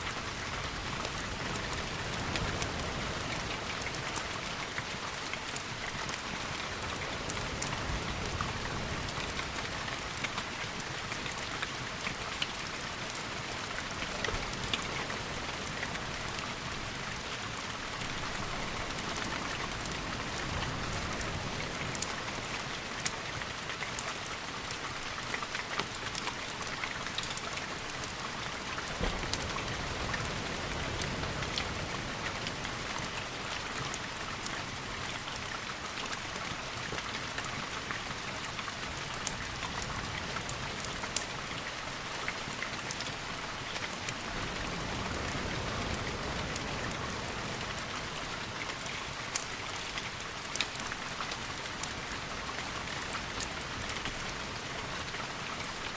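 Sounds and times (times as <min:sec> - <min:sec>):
rain hiss with ticks: 0:00.0 - 0:55.9.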